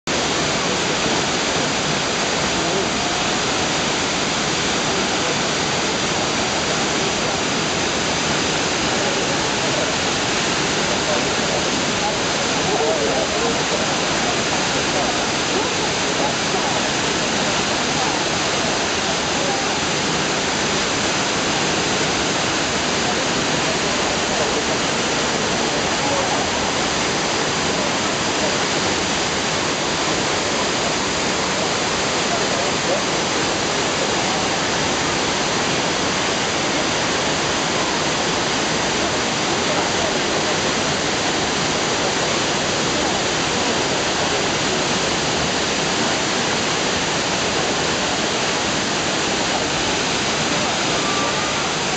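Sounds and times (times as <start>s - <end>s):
waterfall rushing: 0.0s - 51.9s
faint indistinct voices: 0.1s - 51.9s.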